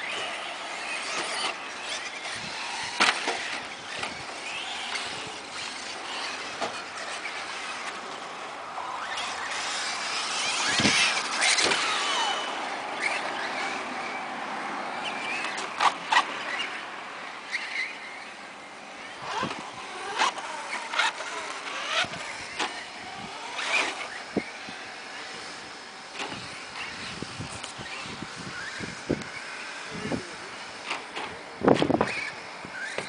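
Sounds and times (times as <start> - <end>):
radio-controlled truck motor whine: 0.0 - 33.0.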